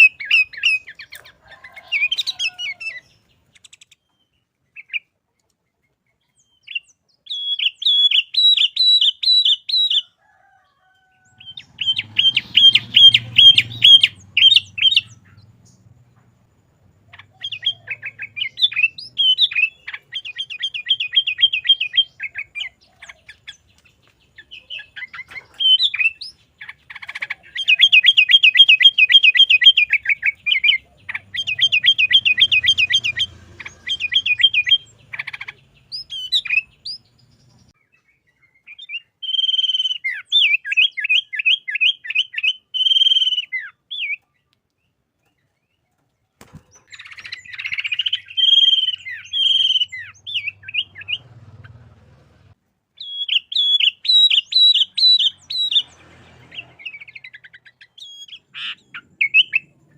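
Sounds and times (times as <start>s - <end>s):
bird singing high chirps: 0.0s - 5.2s, 6.1s - 10.2s, 11.0s - 52.3s, 53.0s - 59.9s.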